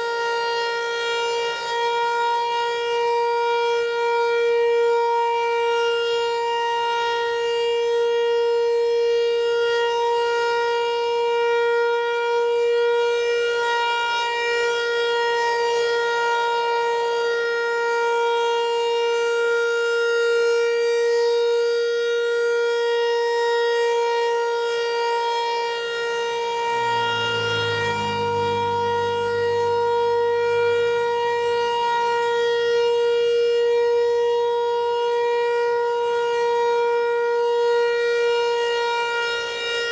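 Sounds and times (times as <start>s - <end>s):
steady warning siren: 0.0s - 39.9s.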